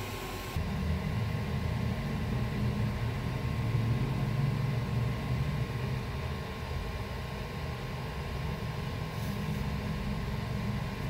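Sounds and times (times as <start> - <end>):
car cooling fans whirring: 0.0 - 11.0.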